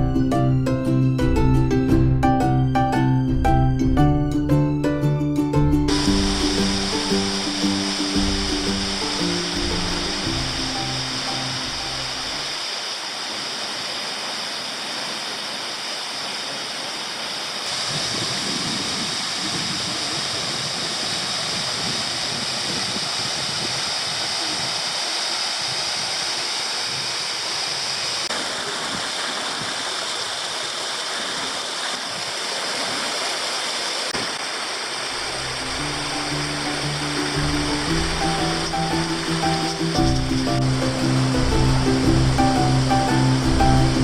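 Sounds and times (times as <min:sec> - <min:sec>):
waterfall rushing: 0:05.8 - 0:44.0.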